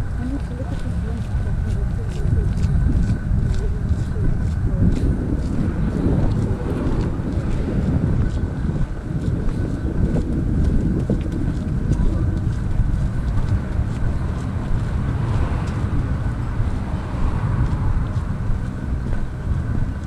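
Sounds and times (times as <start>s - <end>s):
faint voices: 0.0s - 20.0s
wind buffeting microphone: 0.0s - 20.0s.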